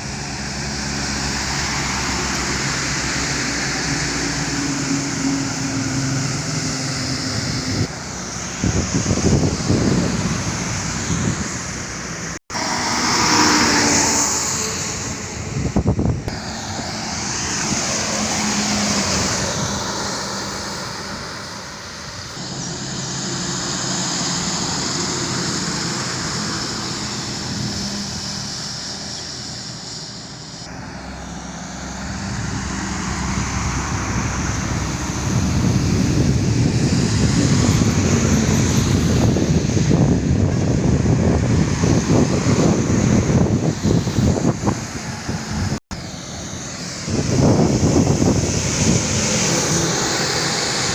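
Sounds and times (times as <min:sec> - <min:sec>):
vehicle engine and road noise: 0:00.0 - 0:50.9
wind rushing: 0:00.0 - 0:50.9.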